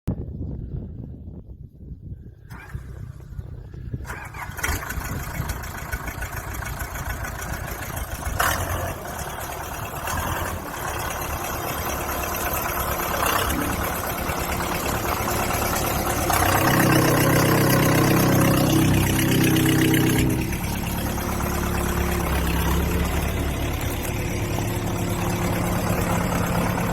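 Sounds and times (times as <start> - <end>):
backhoe engine running: 2.4 - 26.9
strong steady engine drone: 2.4 - 26.9.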